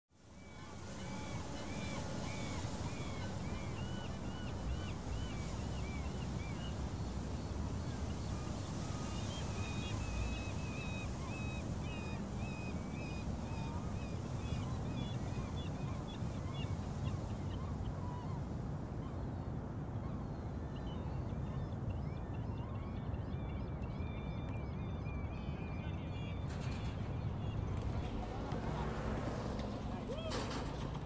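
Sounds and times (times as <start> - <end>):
birds calling: 0.5 - 19.2, 20.0 - 31.0.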